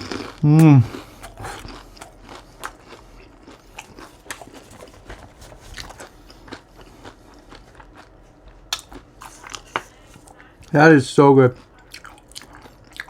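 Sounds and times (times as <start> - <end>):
chewing crunchy fried food: 0.0 - 13.0.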